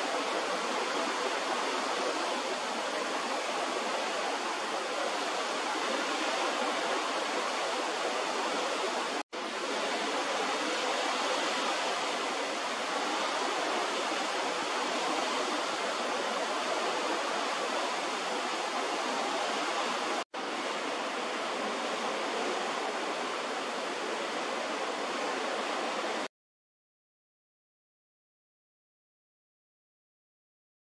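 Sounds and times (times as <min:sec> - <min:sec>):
sea rushing: 0:00.0 - 0:26.3
wind: 0:00.0 - 0:26.3.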